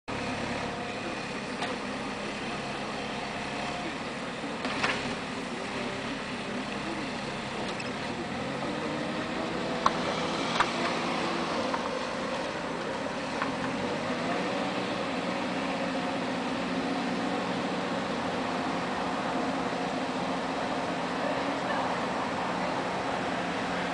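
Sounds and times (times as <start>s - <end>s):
diesel engine running: 0.1s - 23.9s.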